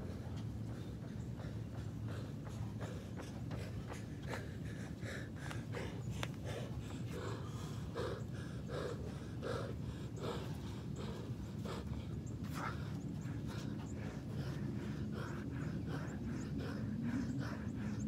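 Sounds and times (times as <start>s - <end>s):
man breathing heavily: 0.0s - 18.0s.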